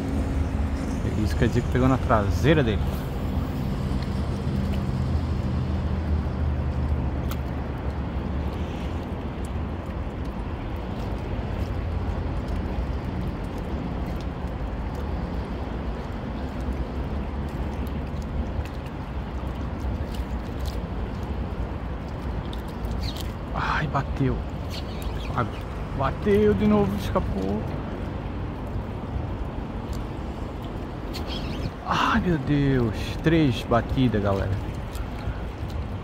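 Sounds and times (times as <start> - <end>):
low engine hum: 0.0 - 36.0
outdoor noise: 0.0 - 36.0.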